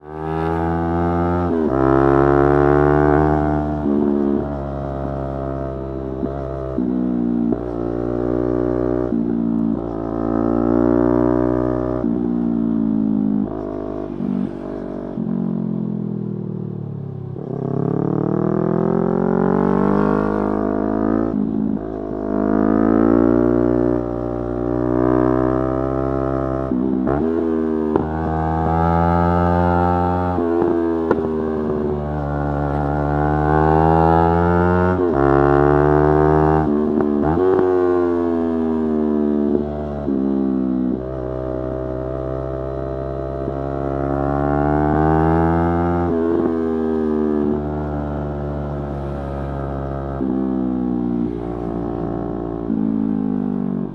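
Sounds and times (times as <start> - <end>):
motorcycle engine revving through gears: 0.0 - 53.9.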